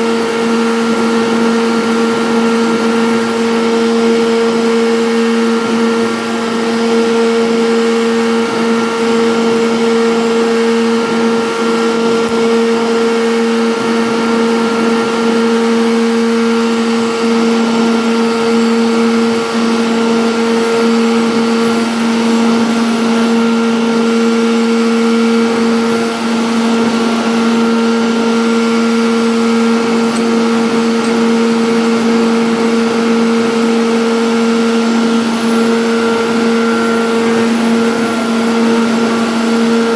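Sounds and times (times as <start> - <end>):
cnc router spindle humming: 0.0 - 39.9.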